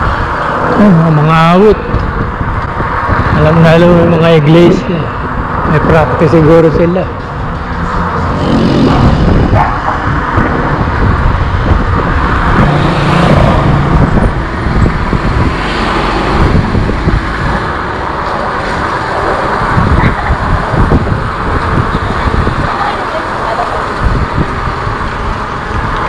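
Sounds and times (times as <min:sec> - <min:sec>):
street traffic: 0:00.0 - 0:26.0
wind and road noise: 0:00.0 - 0:26.0.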